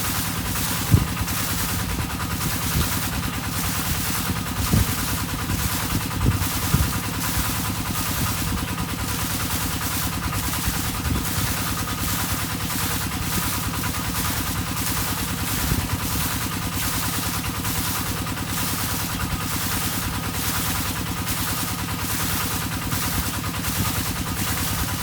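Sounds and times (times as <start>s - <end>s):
pump engine throbbing: 0.0s - 25.0s.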